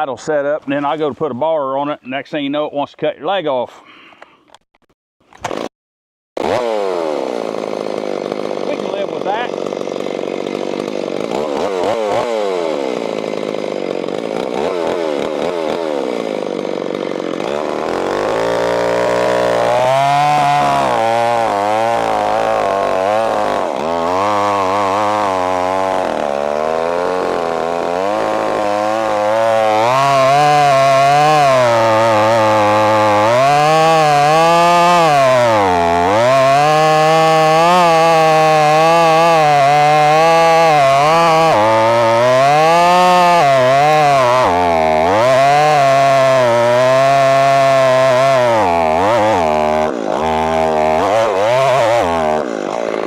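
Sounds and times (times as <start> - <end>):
chainsaw cutting log: 5.2 - 5.7, 6.4 - 53.0
chainsaw revving: 5.4 - 5.7, 6.4 - 53.0.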